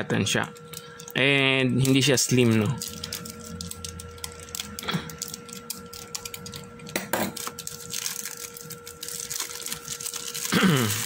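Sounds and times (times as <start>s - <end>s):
plastic bag crinkling: 0.5s - 11.0s.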